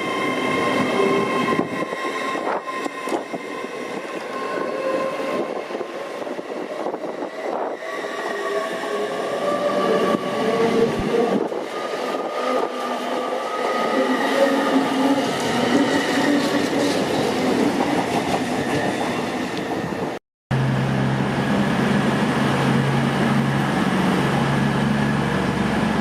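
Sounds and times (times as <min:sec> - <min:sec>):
passenger train rumbling: 0:00.0 - 0:26.0.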